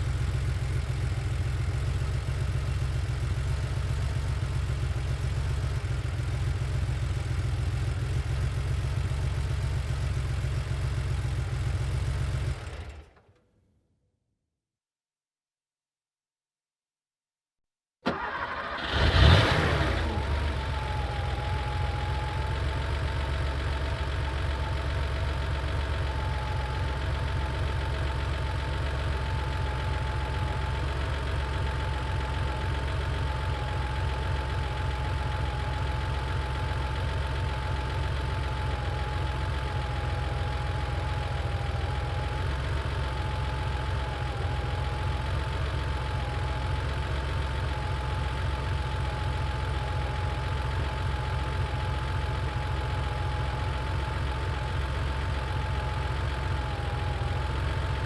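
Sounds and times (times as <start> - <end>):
car engine starting and idling: 0.0 - 13.3, 18.0 - 58.0.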